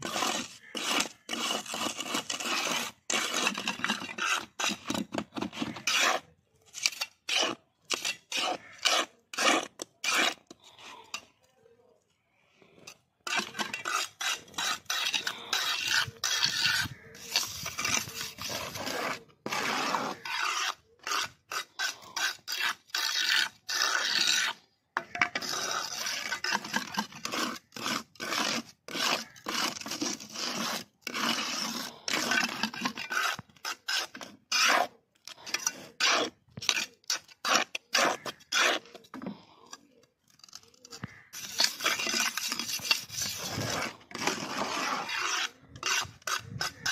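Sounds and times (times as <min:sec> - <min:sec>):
trowel scraping mortar: 0:00.0 - 0:46.9.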